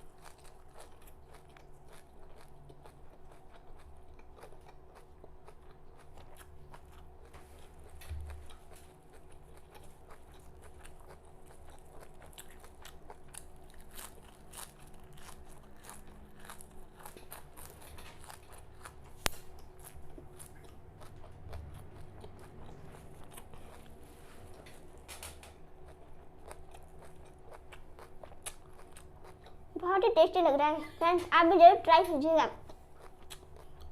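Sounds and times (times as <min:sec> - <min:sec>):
chewing raw greens: 0:00.0 - 0:25.0, 0:25.6 - 0:29.8, 0:32.6 - 0:33.9.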